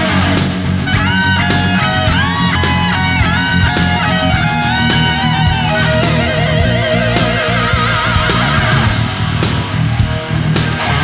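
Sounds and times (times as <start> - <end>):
electric guitar melody: 0.0 - 11.0
steady beat: 0.0 - 11.0.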